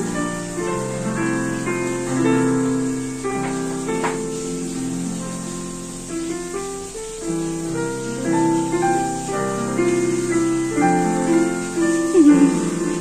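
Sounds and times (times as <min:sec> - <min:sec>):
digital piano playing: 0:00.0 - 0:13.0.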